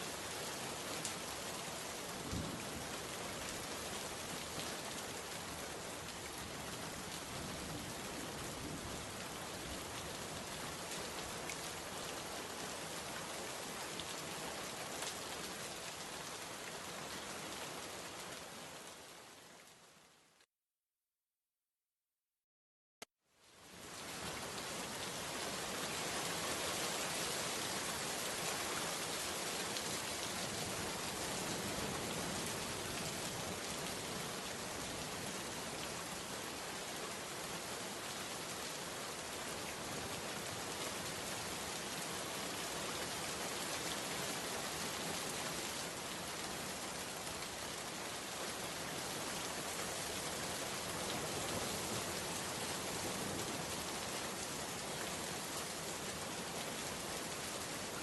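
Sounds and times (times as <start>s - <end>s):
steady rain falling: 0.0s - 20.5s, 23.3s - 58.0s.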